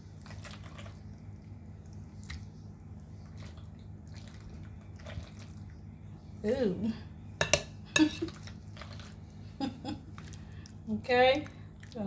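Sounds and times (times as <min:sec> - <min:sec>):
wet food squishes: 0:00.0 - 0:06.3, 0:08.0 - 0:12.0
low hum: 0:00.0 - 0:12.0.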